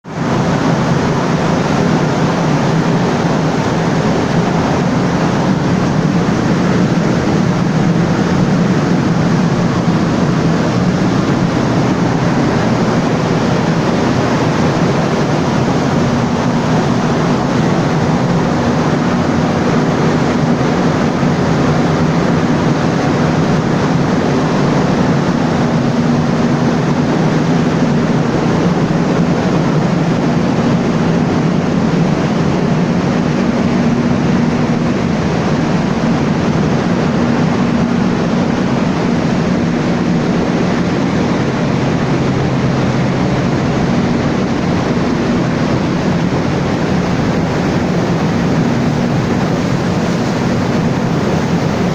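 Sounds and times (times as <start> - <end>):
diesel generator engine running: 0.0 - 51.9.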